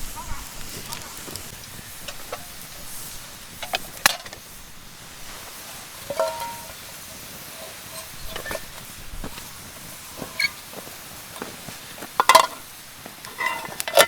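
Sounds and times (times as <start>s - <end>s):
camp cooking gear clicking: 0.4s - 4.6s, 6.0s - 14.0s.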